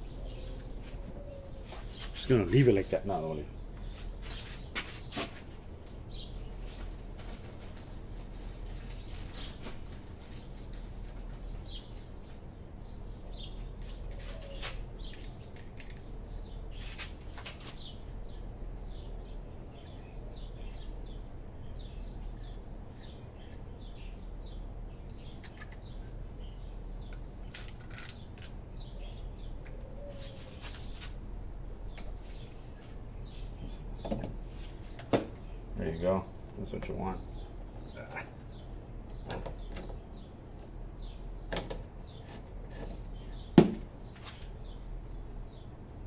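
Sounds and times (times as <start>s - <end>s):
small birds chirping: 0.0s - 46.0s
steady low hum: 0.0s - 46.0s.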